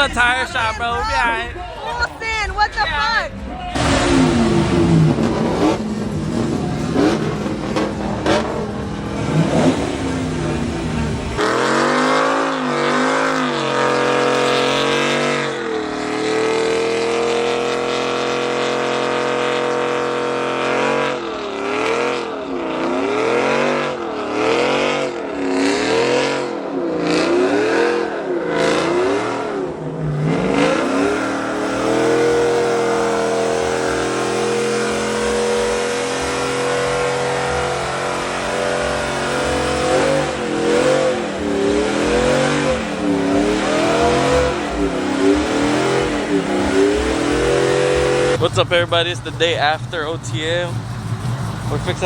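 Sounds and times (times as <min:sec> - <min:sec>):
truck engine revving hard: 0:00.0 - 0:52.0.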